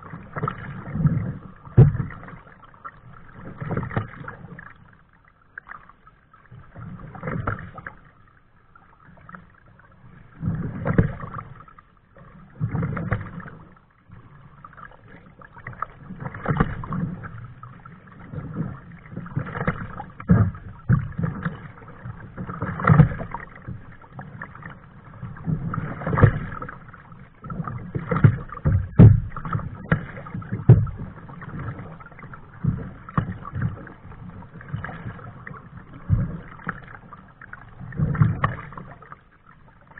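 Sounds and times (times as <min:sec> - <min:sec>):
paddle strokes splashing: 0:00.0 - 0:39.9.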